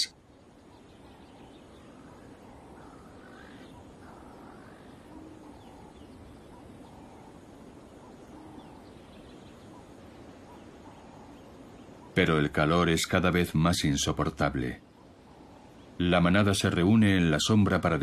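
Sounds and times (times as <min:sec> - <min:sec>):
background hiss of bush: 0:00.0 - 0:18.0
faint bird chirps: 0:00.0 - 0:18.0.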